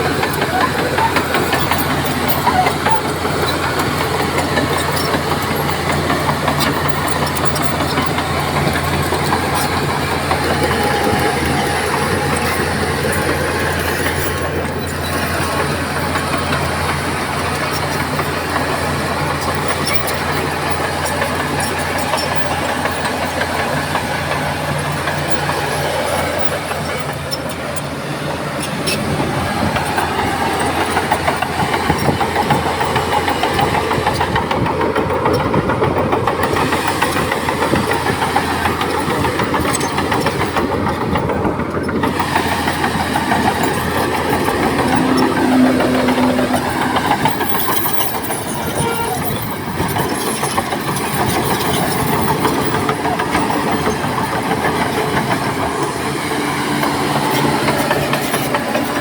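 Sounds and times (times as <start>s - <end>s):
heavy diesel machinery rumbling: 0.0s - 59.0s
loud rough machine noise: 0.0s - 59.0s.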